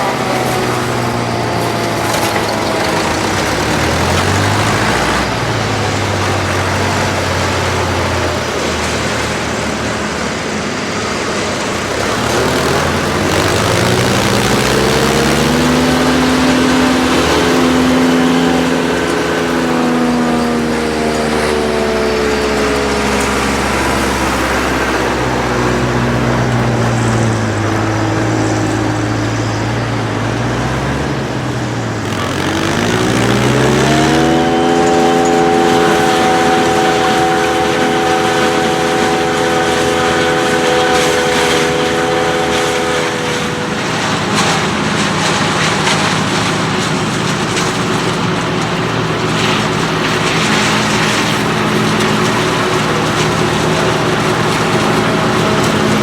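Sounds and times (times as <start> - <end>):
steady mechanical noise: 0.0 - 56.0
tractor engine revving: 0.0 - 56.0.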